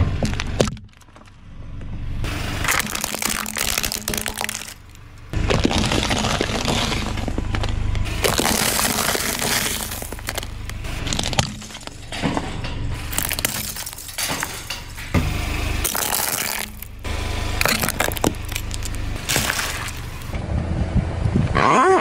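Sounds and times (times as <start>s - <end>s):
car tyres crushing objects: 0.0s - 20.4s.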